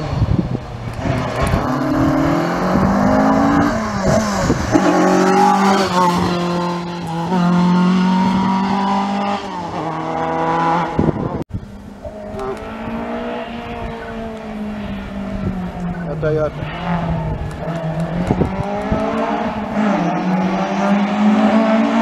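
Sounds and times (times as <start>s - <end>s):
rally car engine revving: 0.0s - 11.4s, 12.0s - 22.0s.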